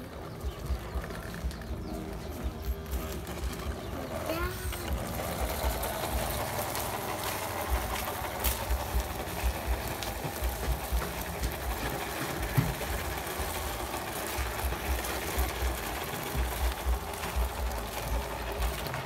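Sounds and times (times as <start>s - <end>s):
electric motor and gearbox whirring: 0.0s - 19.0s
tyres crunching on gravel: 0.0s - 19.0s.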